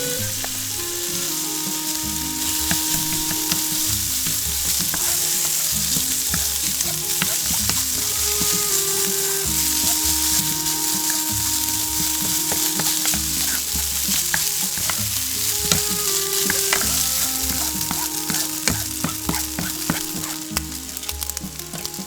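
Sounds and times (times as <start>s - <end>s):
background music with held notes: 0.0s - 22.0s
rice sizzling in a pan: 0.0s - 22.0s.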